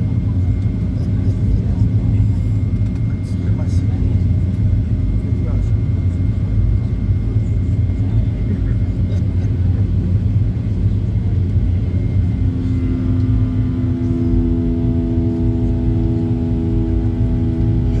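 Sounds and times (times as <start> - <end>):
jet engine low rumble: 0.0 - 18.0.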